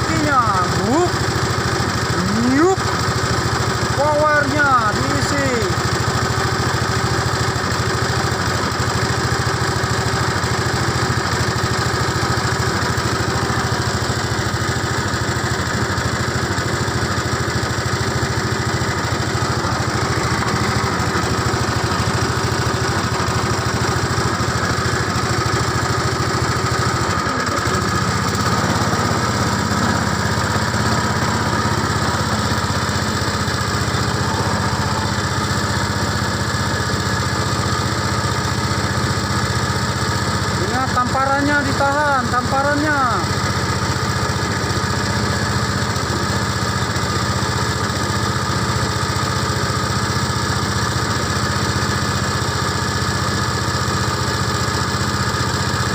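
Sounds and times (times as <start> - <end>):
motorboat engine running: 0.0 - 55.9.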